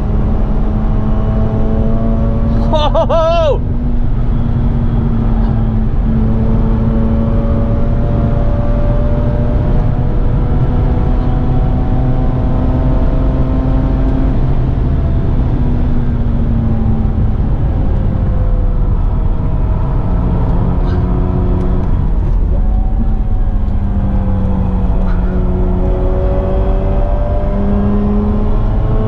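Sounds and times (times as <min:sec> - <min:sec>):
car engine at high revs: 0:00.0 - 0:29.0
road and tyre rumble: 0:00.0 - 0:29.0.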